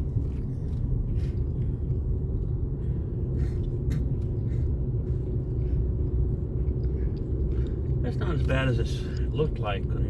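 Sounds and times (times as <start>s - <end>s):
car road and engine rumble: 0.0s - 10.0s
light ticks from road surface: 0.1s - 10.0s.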